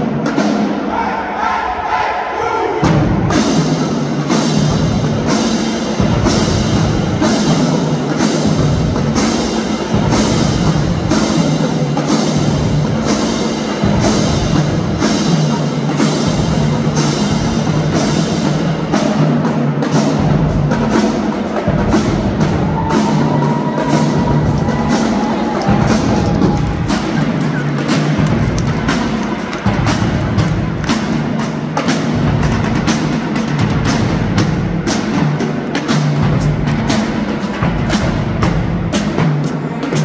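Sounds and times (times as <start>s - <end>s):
drumline playing: 0.0s - 1.9s, 2.7s - 40.0s.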